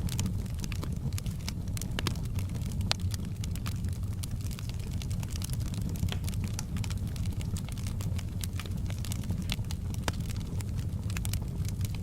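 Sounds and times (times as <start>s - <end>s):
fireplace crackling: 0.0s - 12.0s.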